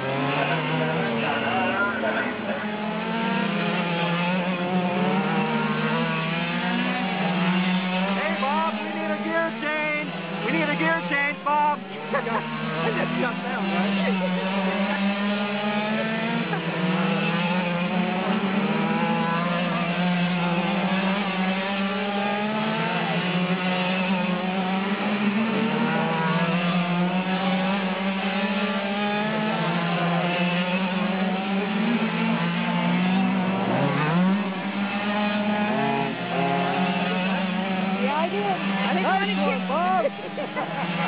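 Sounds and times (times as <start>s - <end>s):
small engines buzzing: 0.0s - 41.0s.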